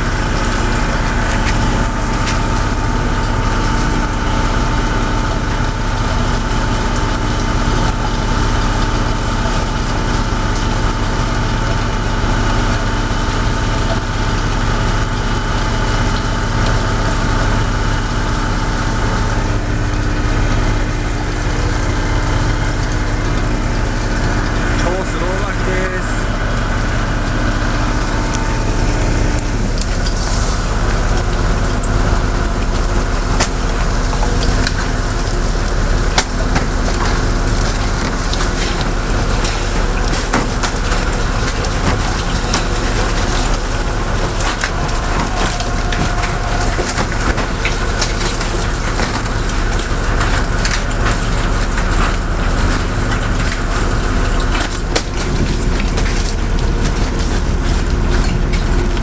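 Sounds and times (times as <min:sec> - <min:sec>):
boat engine drone: 0:00.0 - 0:59.0.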